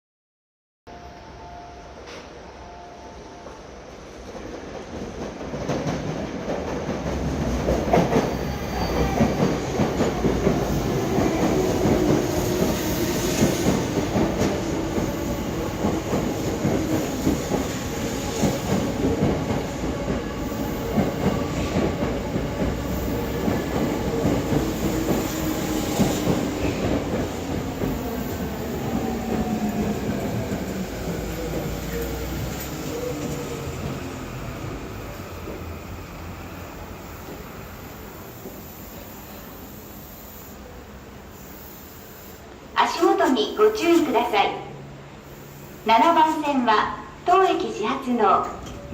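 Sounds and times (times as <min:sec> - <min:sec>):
electric train slowing: 0:00.9 - 0:47.3.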